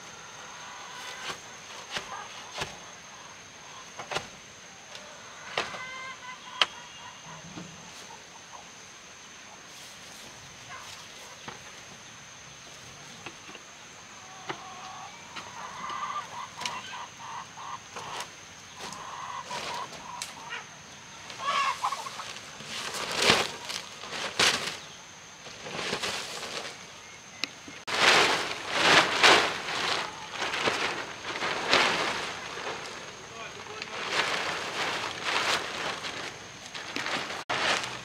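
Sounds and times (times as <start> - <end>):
chickens clucking: 0.1 - 4.3, 4.9 - 8.8, 12.9 - 38.0.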